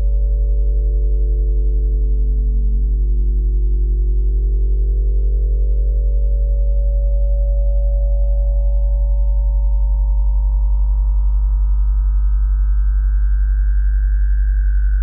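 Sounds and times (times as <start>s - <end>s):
deep sine tone hum: 0.0s - 15.0s.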